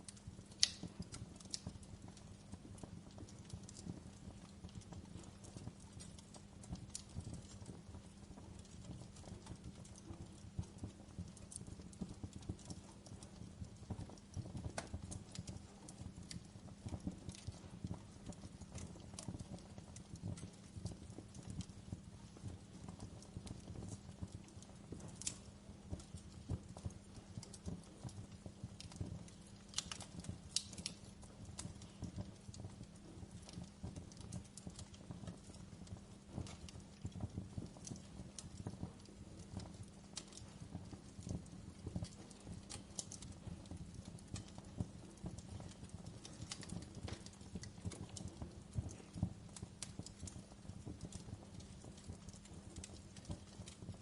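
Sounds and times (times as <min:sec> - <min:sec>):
campfire crackling and popping: 0:00.0 - 0:54.0
low rumble of flames: 0:00.0 - 0:54.0.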